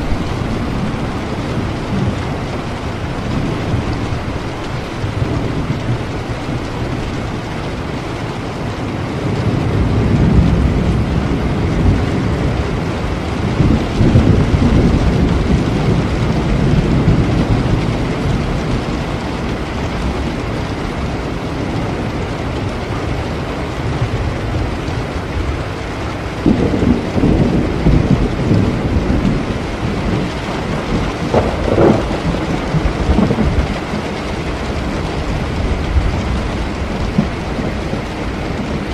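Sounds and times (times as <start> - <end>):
rolling thunder: 0.0 - 38.9
steady rain: 0.0 - 38.9.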